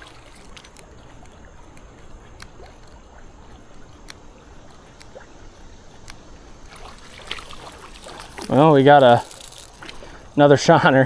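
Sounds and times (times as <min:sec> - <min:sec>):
creek water rushing: 0:00.0 - 0:10.8
faint ticks: 0:00.1 - 0:10.4.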